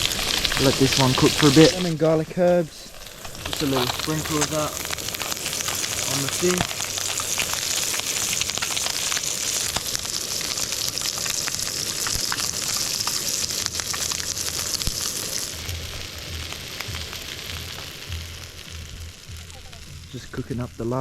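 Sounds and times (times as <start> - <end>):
fish sizzling in a pan: 0.0 - 21.0.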